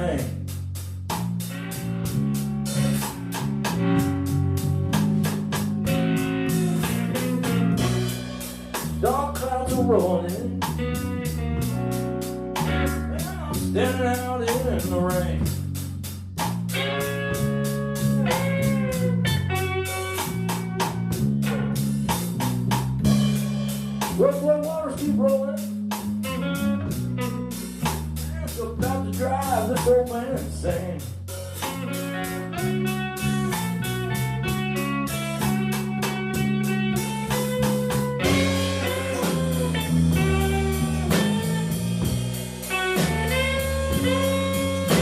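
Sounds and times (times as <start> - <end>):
bass line: 0.0 - 45.0
drum kit with cymbals: 0.0 - 45.0
guitar notes: 1.4 - 15.5, 16.7 - 22.2, 23.0 - 30.4, 31.3 - 45.0.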